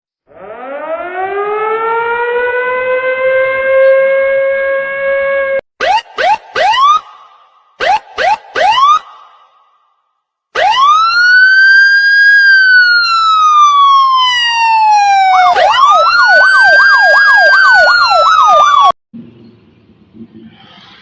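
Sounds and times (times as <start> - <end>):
electronic siren wailing and yelping: 0.3 - 9.6, 10.6 - 19.0.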